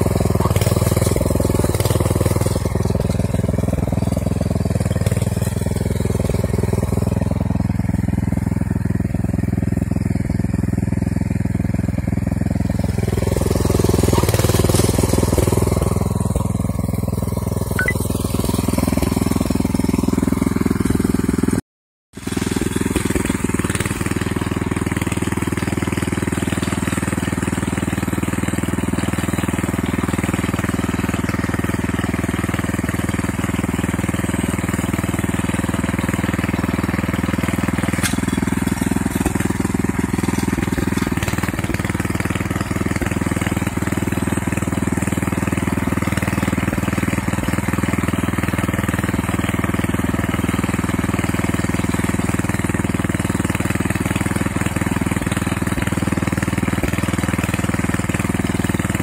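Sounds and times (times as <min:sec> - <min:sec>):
small petrol engine running: 0:00.0 - 0:21.6, 0:22.2 - 0:59.0.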